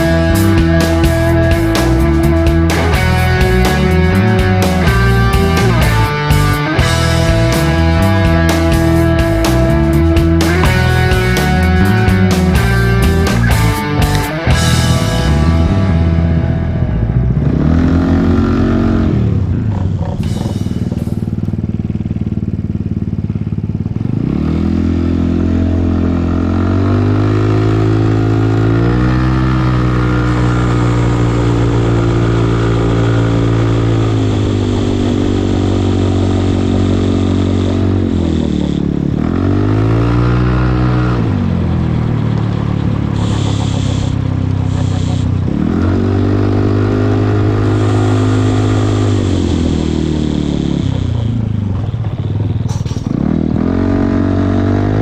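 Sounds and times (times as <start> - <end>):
scooter engine running: 0.0 - 55.0.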